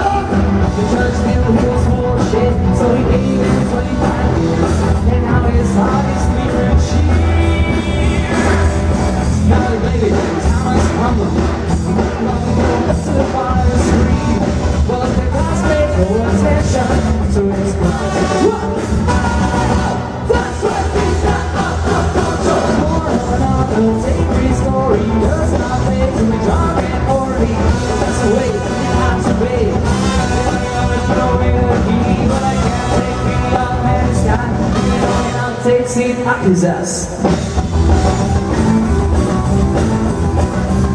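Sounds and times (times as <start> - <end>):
heavy bass: 0.0 - 40.9
lead singer: 0.0 - 40.9
live rock band playing: 0.0 - 40.9.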